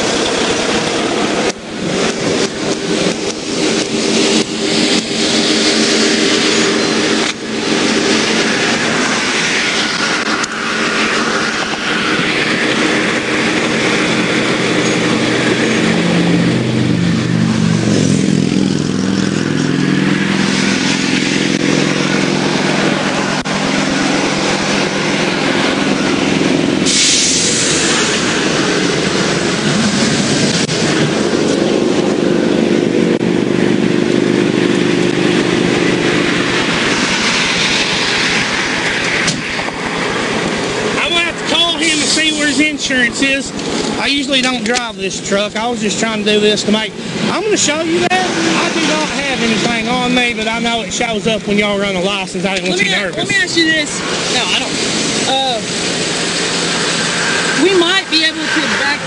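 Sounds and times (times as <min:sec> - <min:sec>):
heavy vehicle engine idling: 0:00.0 - 0:59.0
highway traffic: 0:00.0 - 0:59.0.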